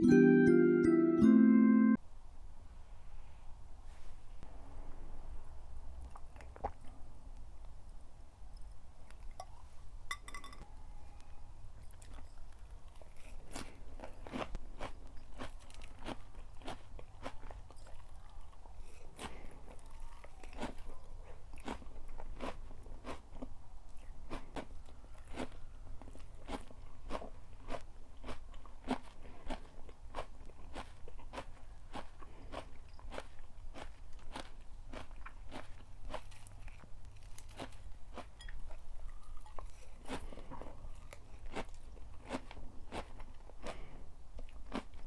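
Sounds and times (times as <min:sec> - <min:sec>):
crunchy food being chewed: 0:05.9 - 0:08.0, 0:08.6 - 0:45.0.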